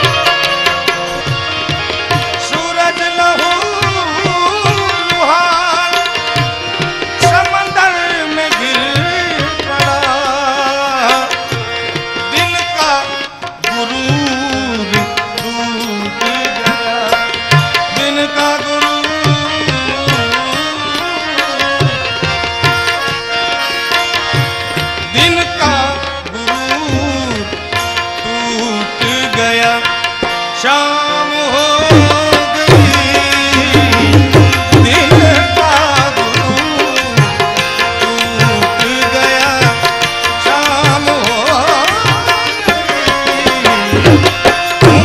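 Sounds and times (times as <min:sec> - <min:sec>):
man singing: 0:00.0 - 0:23.0, 0:23.6 - 0:45.0
harmonium chords: 0:00.0 - 0:45.0
tabla rhythm: 0:00.0 - 0:45.0.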